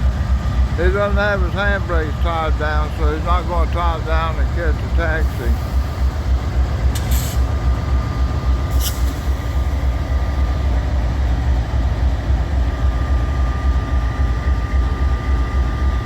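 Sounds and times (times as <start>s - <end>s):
locomotive idling rumble: 0.0s - 16.0s.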